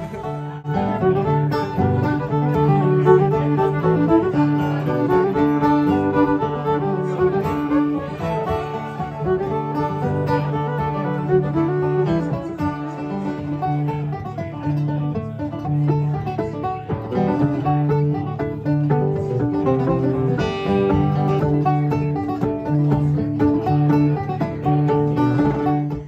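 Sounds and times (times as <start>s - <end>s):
banjo: 0.0s - 26.0s
guitar: 0.0s - 26.0s.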